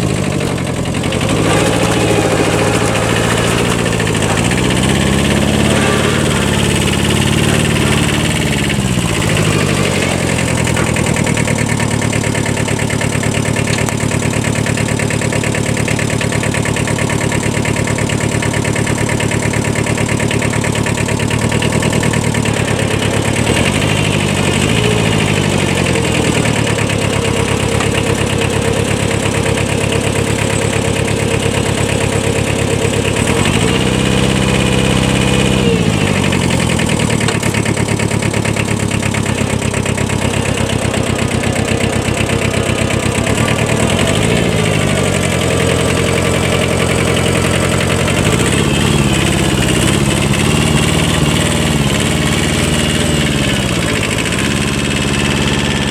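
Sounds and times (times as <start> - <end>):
tractor diesel engine revving: 0.0 - 55.9.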